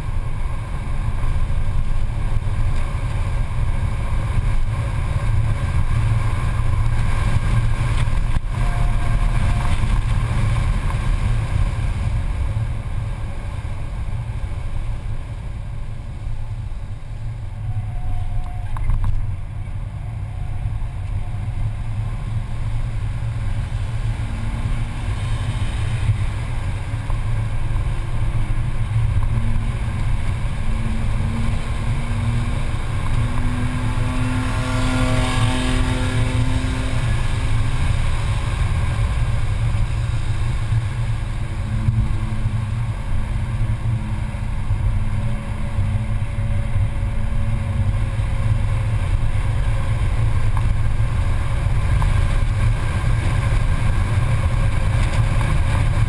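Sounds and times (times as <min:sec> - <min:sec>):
car engine drone from cabin: 0:00.0 - 0:56.0
road and wind noise: 0:00.0 - 0:56.0.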